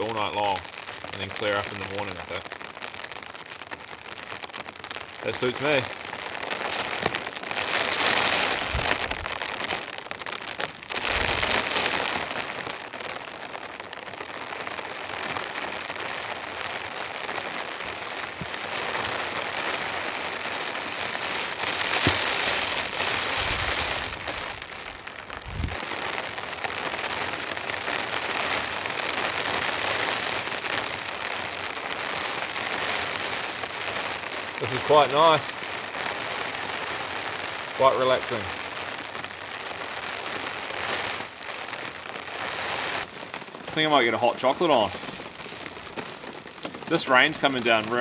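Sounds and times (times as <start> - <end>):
light rain falling: 0.0 - 48.0.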